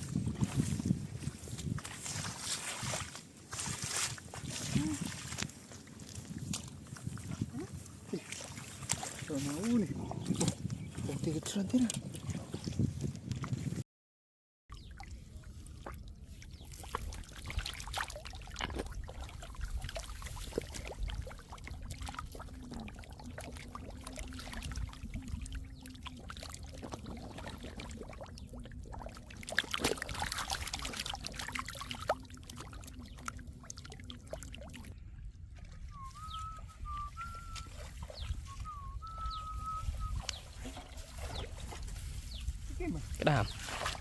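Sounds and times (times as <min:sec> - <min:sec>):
muddy water splashing and sloshing: 0:00.0 - 0:13.7, 0:14.7 - 0:44.0.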